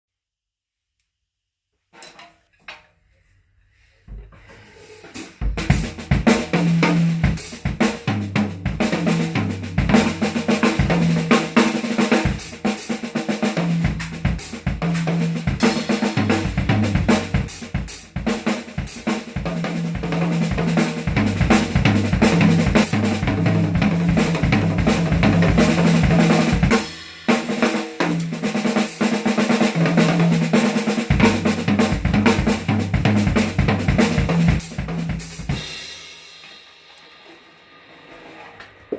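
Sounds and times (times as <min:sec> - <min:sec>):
drum kit groove: 0:04.1 - 0:38.9.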